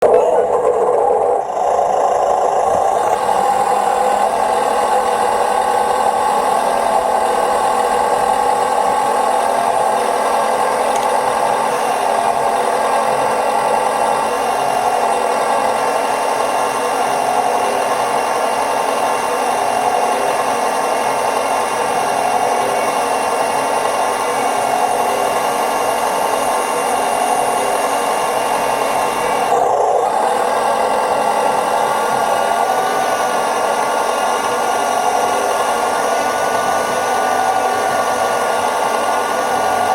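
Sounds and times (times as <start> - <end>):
small motors whining: 0.0 - 39.9.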